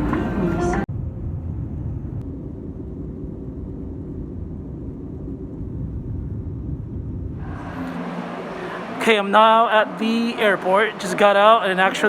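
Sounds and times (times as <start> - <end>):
engine and airflow rumble: 0.0 - 12.0.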